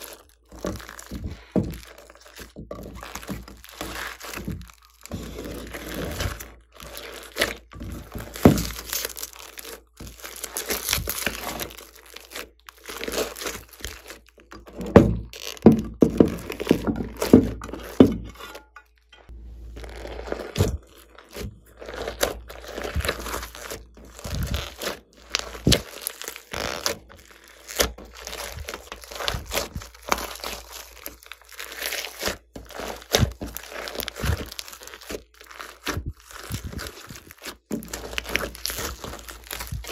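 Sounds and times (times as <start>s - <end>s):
slime popping and crunching: 0.0s - 18.2s, 19.8s - 39.9s.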